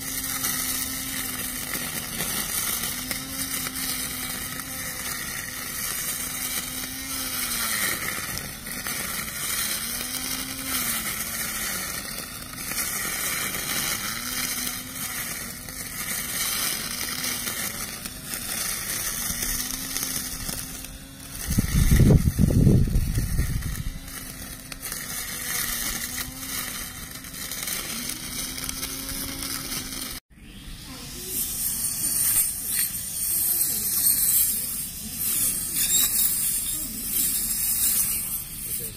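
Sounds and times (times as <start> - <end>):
electric string trimmer running: 0.0 - 38.9
grass being cut: 0.0 - 38.9.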